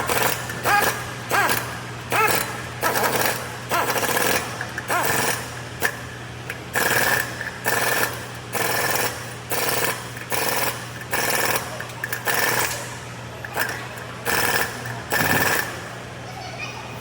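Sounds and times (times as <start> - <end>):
rattling power tool: 0.0 - 16.1.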